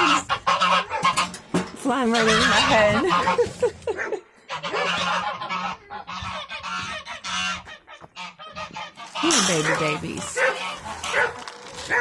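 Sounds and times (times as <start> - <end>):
geese honking: 0.0 - 3.6, 4.4 - 12.0.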